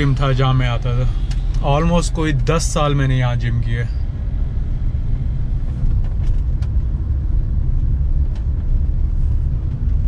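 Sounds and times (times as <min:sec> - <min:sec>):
car driving rumble inside cabin: 0:00.0 - 0:10.0.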